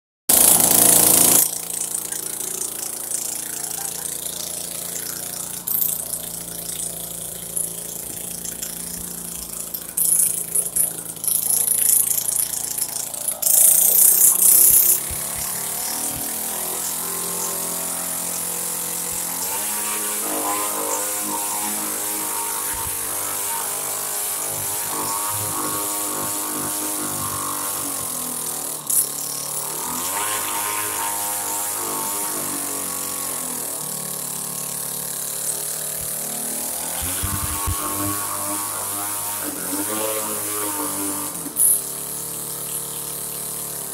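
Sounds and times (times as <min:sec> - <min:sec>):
model plane engine revving: 0:00.3 - 0:43.9.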